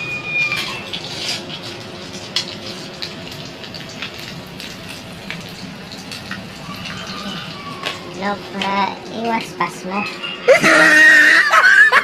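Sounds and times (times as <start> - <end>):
food sizzling in a pan: 0.0 - 11.3.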